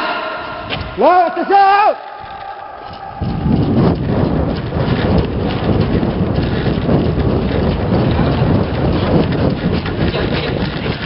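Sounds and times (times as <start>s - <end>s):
microphone rustling and rumbling: 0.5s - 1.0s, 2.2s - 11.0s.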